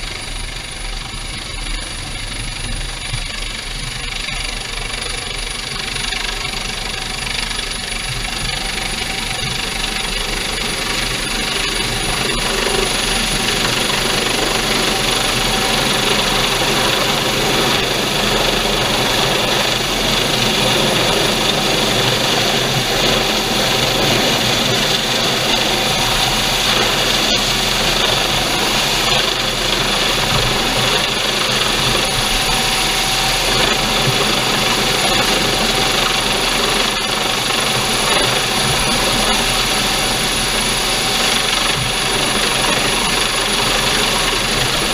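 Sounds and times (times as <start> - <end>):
helicopter rotor and turbine noise: 0.0 - 44.9.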